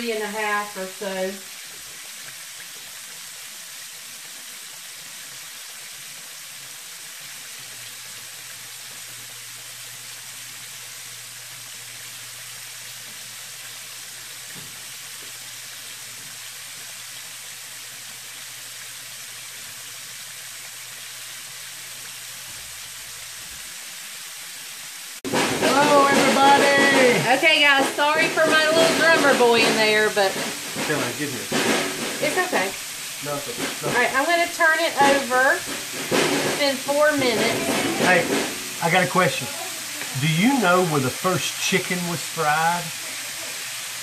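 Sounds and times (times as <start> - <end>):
chicken deep-frying in hot oil: 0.0 - 44.0.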